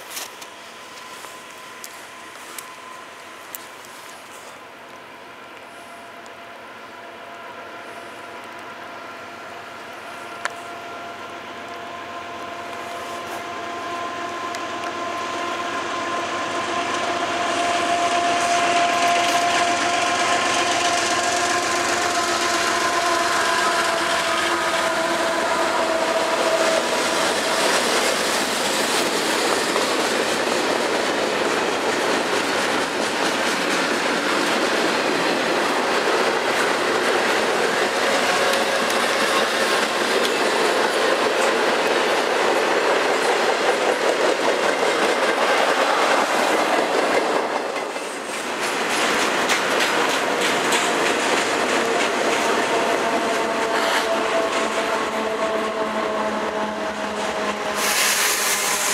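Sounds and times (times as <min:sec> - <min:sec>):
diesel locomotive tones: 0:00.0 - 0:58.9
train wheels rushing on rail: 0:00.0 - 0:58.9.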